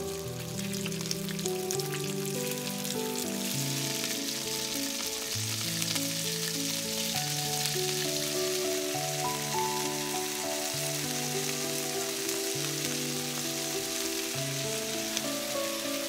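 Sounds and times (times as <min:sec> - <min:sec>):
beef sizzling in skillet: 0:00.0 - 0:16.0
soft background music: 0:00.0 - 0:16.0.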